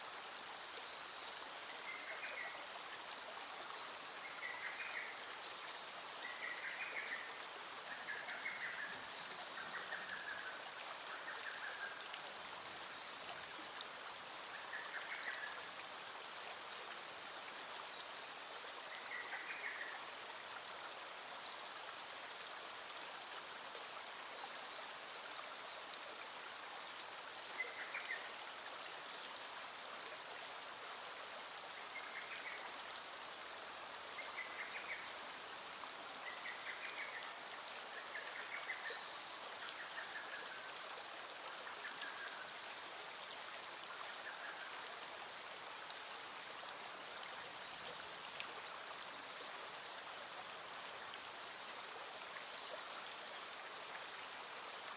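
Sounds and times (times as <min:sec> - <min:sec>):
light rain falling: 0:00.0 - 0:54.9
stream flowing over stones: 0:00.0 - 0:54.9.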